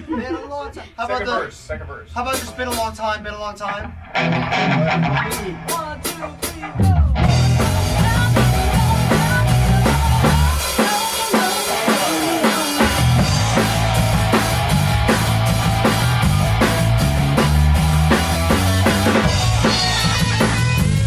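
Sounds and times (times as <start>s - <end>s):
rock band playing: 2.3s - 21.0s.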